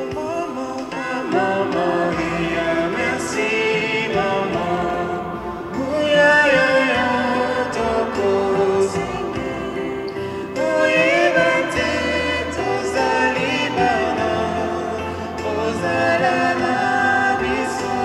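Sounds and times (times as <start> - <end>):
instrumental accompaniment: 0.0 - 18.0
voices singing a hymn: 0.0 - 18.0.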